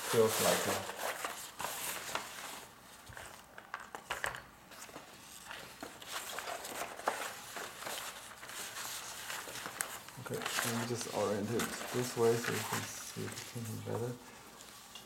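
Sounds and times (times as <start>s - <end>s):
paper rustling and crackling: 0.0s - 15.0s.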